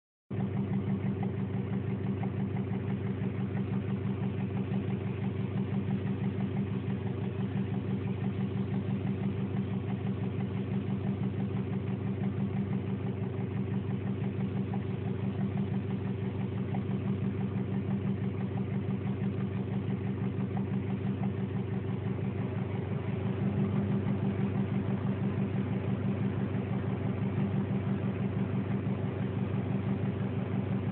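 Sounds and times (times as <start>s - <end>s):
car engine idling with knocking tick: 0.3s - 30.9s.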